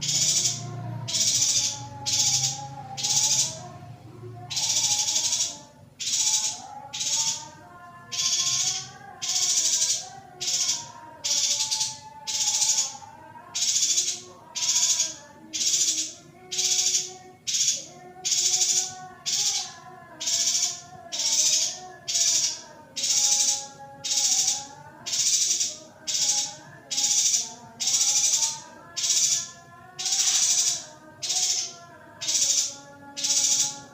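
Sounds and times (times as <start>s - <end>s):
bird chattering calls: 0.0s - 3.7s, 4.4s - 33.9s.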